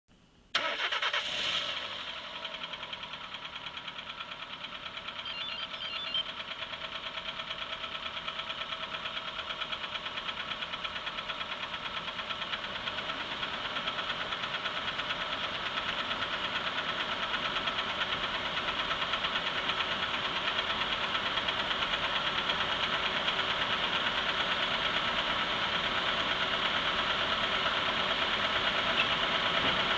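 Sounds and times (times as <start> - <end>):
engine running with rhythmic knock: 1.2 - 29.9.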